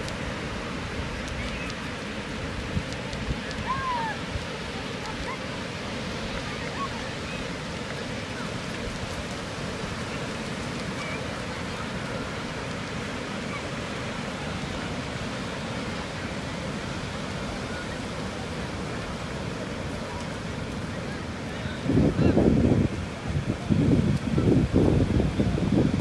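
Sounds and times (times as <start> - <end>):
waves washing onto shore: 0.0 - 26.0.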